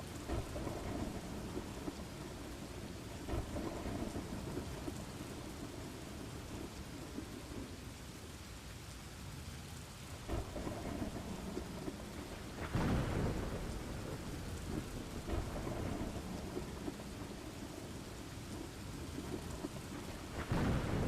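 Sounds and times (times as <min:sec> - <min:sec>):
rolling thunder: 0:00.0 - 0:07.8, 0:10.3 - 0:21.0
steady rain: 0:00.0 - 0:21.0.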